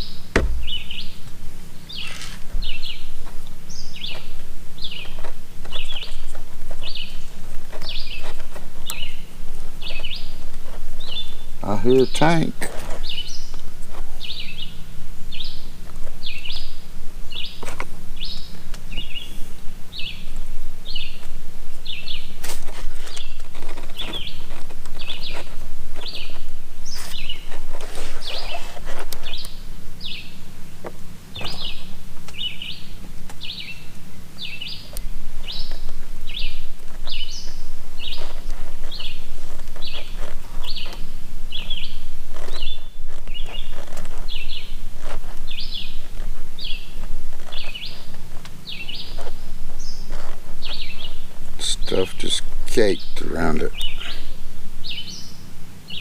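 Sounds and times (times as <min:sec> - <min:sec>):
bird chirping: 0:00.0 - 0:22.4, 0:23.0 - 0:30.4, 0:31.3 - 0:56.0
steady low hum: 0:00.0 - 0:56.0.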